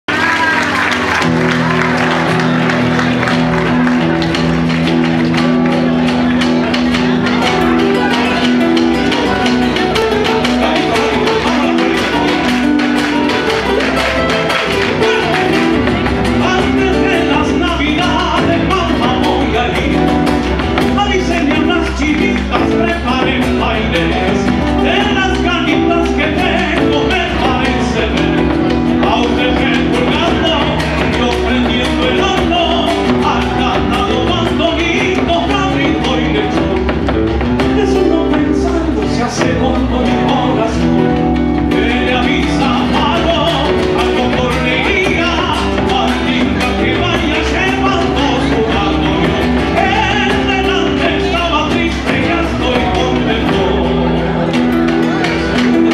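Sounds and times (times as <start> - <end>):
acoustic guitars playing: 0.1 - 55.9
drum beat: 0.1 - 55.9.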